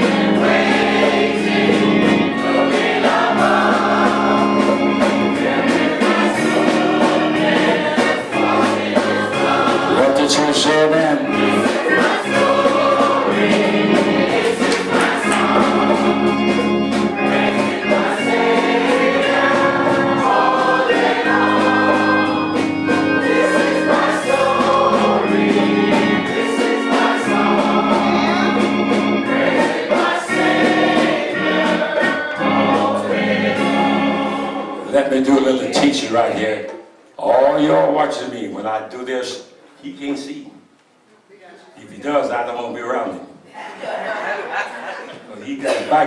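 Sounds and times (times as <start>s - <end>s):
church choir singing a hymn: 0.0s - 38.8s
organ chords: 0.0s - 41.1s.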